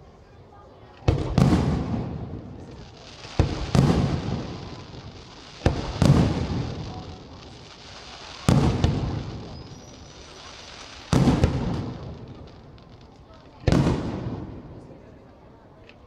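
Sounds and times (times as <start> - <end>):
firework shells bursting: 1.1 - 14.4.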